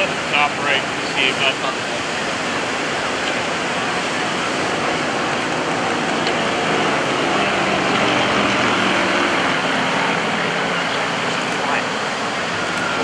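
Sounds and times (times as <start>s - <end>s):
aircraft engines droning overhead: 0.0s - 13.0s
steady rushing noise: 0.0s - 13.0s.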